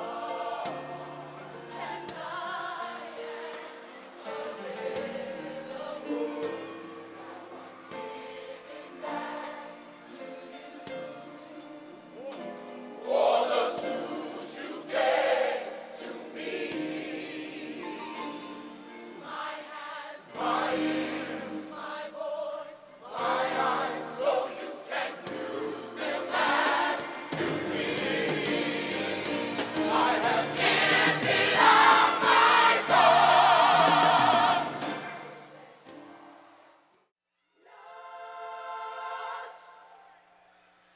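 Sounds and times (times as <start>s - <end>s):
gospel choir singing: 0.0s - 36.6s, 37.6s - 40.7s
musical accompaniment: 0.0s - 40.8s.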